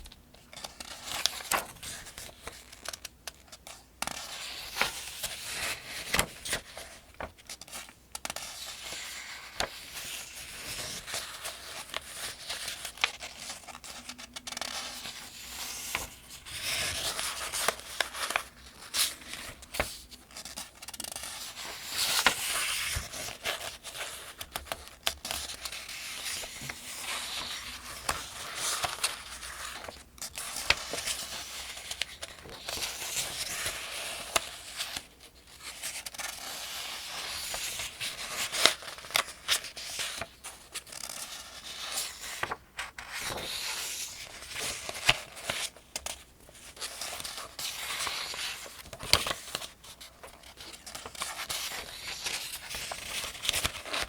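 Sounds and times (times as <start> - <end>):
paper pages turning: 0.0 - 54.0.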